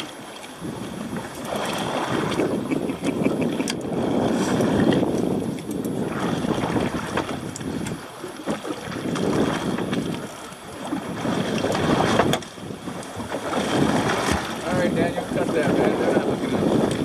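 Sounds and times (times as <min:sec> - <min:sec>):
sea noise: 0:00.0 - 0:17.0
wind on microphone: 0:00.0 - 0:17.0.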